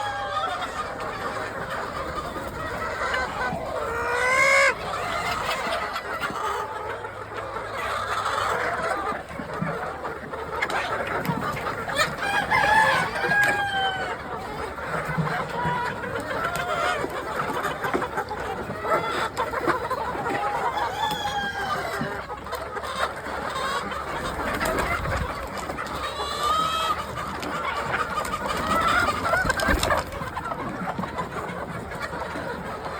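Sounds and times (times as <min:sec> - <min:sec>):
hens clucking and squawking: 0:00.0 - 0:32.9.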